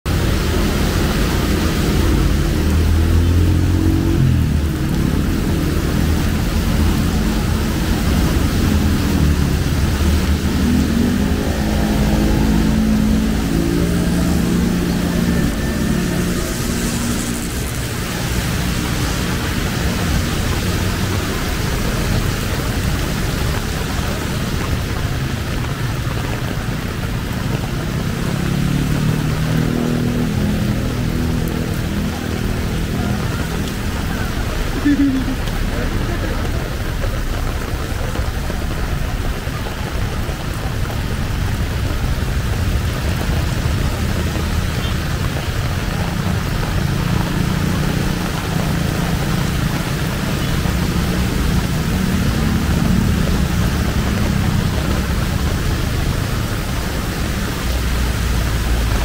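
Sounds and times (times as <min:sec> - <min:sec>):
hiss of rain and tyres: 0:00.1 - 0:59.0
passing vehicle engines: 0:00.1 - 0:59.0.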